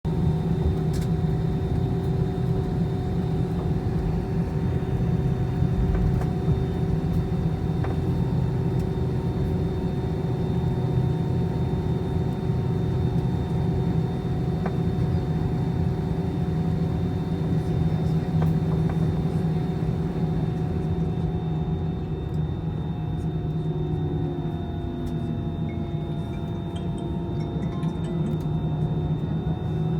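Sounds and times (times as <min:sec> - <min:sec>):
airliner engines rumbling: 0:00.1 - 0:29.9.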